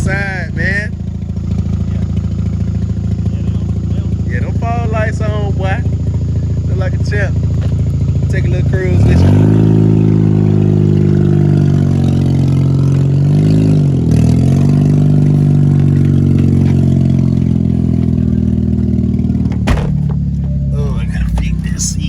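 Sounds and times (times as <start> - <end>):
rotary engine pulling car: 0.0 - 22.0.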